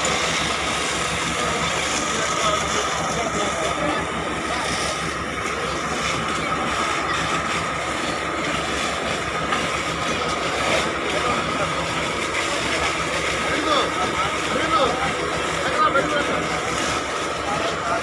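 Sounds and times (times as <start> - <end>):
fire hose water jet roaring: 0.0 - 18.0.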